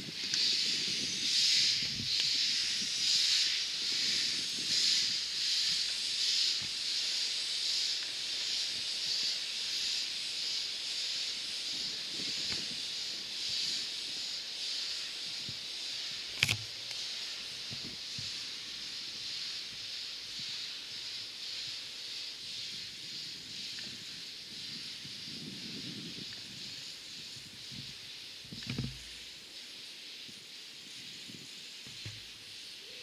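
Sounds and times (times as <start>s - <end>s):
steam hissing in pulses: 0.0s - 33.0s.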